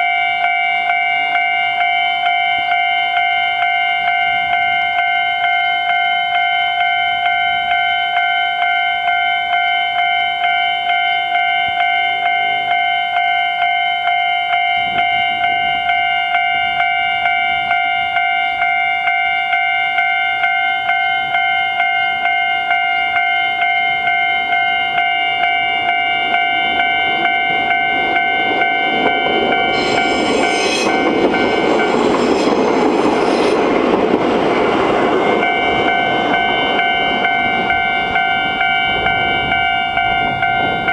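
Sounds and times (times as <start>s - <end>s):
level crossing warning bell: 0.0s - 40.9s
train rumbling past: 0.0s - 40.9s.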